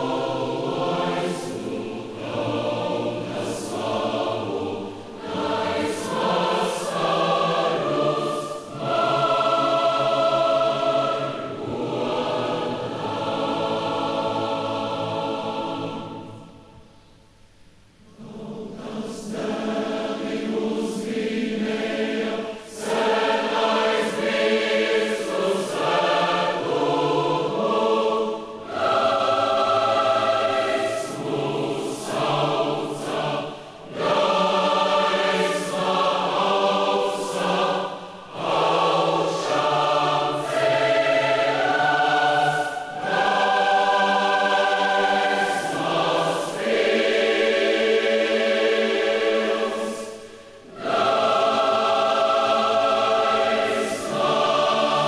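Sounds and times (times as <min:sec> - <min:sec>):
massed choir singing in harmony: 0:00.0 - 0:55.0.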